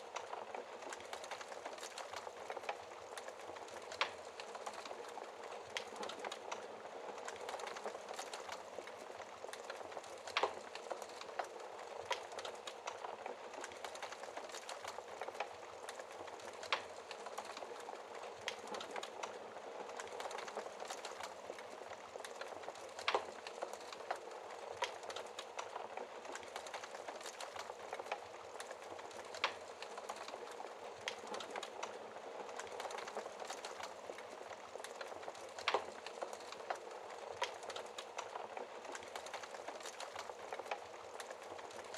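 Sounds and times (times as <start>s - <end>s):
burning logs popping: 0.0s - 41.9s
wood fire crackling: 0.0s - 41.9s.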